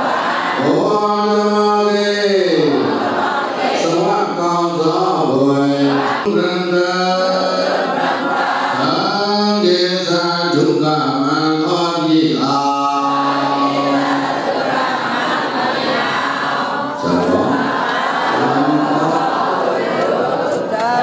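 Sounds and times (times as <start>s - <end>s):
group chanting in unison: 0.0s - 21.0s.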